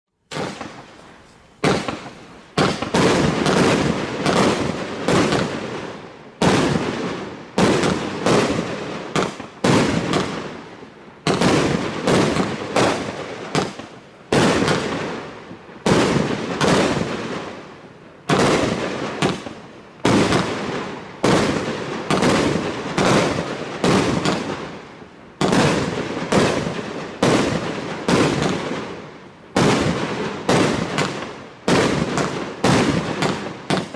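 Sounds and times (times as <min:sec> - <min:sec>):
fireworks bangs: 0:00.3 - 0:33.9.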